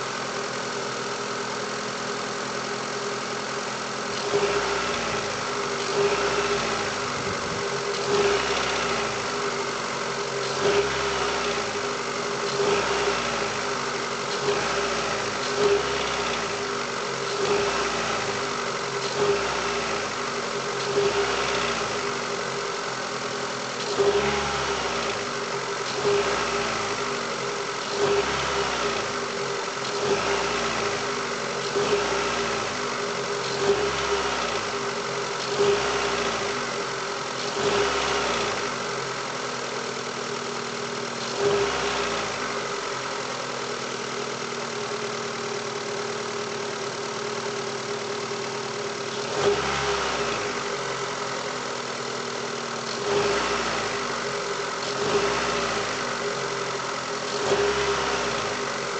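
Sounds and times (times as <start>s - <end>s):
car engine revving and idling: 0.0s - 58.9s.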